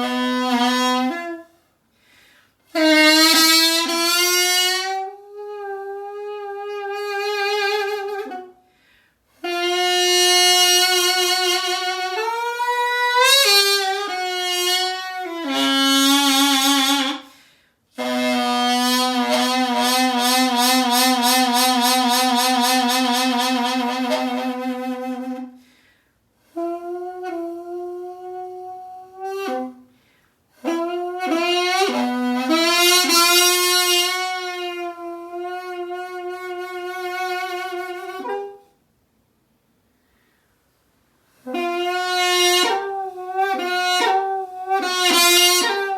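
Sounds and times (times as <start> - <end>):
double-reed oboe solo: 0.0 - 1.6, 2.7 - 8.6, 9.4 - 17.3, 17.9 - 25.6, 26.5 - 29.9, 30.5 - 38.7, 41.4 - 45.9.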